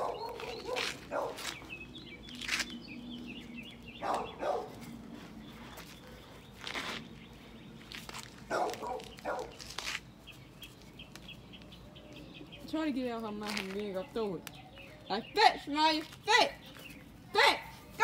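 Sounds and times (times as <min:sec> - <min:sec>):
bird chirping: 0:00.0 - 0:17.3
scuffling on dry dirt: 0:00.0 - 0:18.0.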